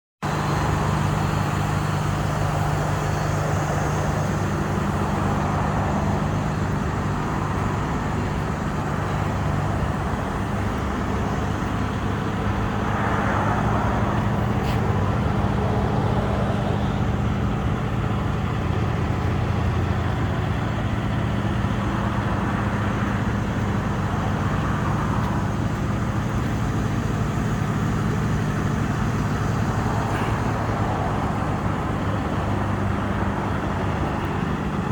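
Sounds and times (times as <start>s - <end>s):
vehicle engine running: 0.2s - 34.9s.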